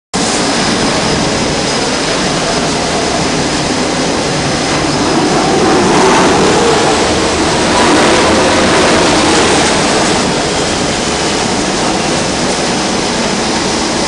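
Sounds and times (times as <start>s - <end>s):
jet engines running: 0.2s - 14.0s.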